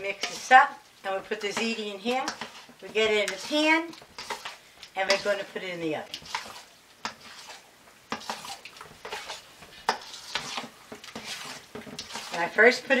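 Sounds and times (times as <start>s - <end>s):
spoon scraping metal bowl: 0.0s - 0.6s, 1.2s - 13.0s.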